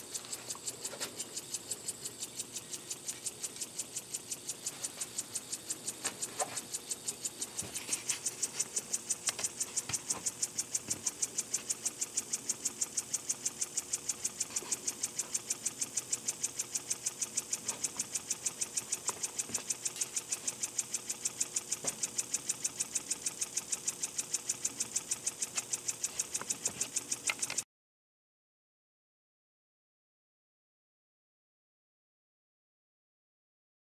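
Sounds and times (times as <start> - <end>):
model steam engine chuffing: 0.0 - 27.6.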